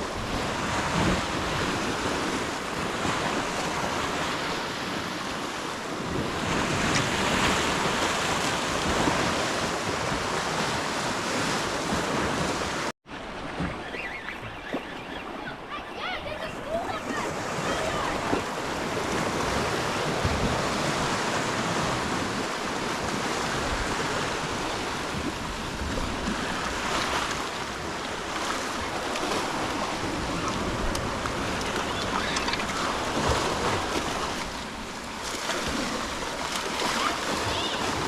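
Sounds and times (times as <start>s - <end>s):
ocean surf washing on shore: 0.0s - 38.0s.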